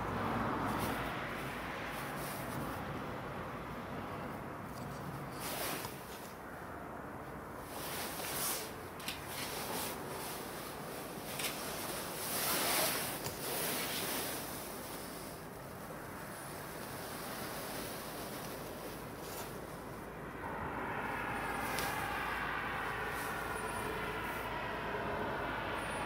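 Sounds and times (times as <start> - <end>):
rustling wind-like noise: 0.0 - 26.0
steady background hiss: 0.0 - 26.0.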